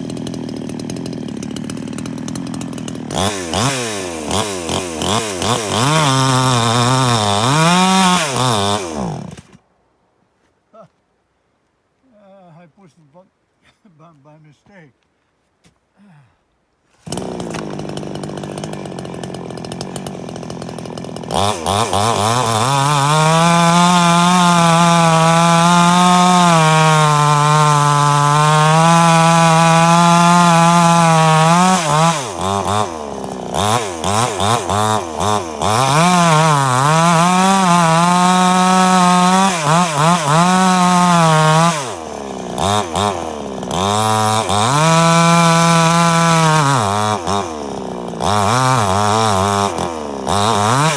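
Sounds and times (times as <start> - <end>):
chainsaw engine revving: 0.0 - 9.6, 17.0 - 50.9.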